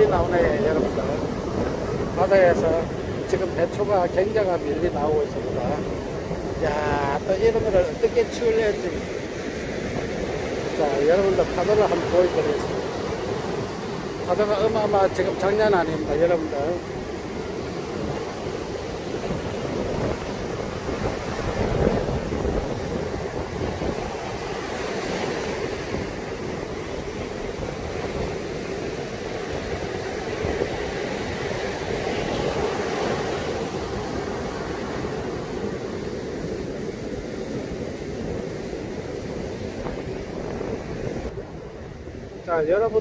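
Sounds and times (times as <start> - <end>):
surf breaking on beach: 0.0 - 43.0
wind buffeting microphone: 0.0 - 43.0.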